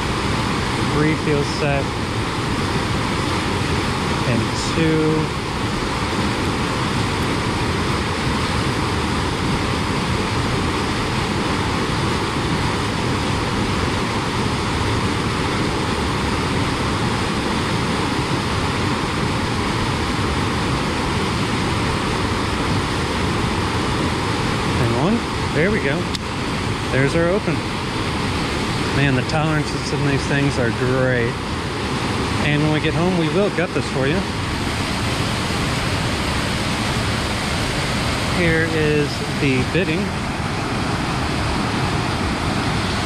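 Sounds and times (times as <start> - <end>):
water rushing over rocks: 0.0 - 43.0.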